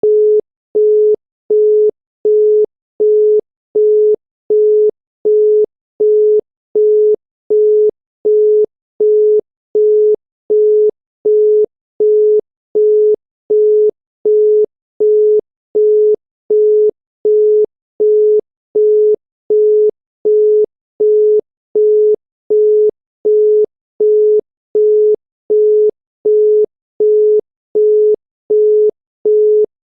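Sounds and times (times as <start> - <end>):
telephone busy tone: 0.0 - 29.7.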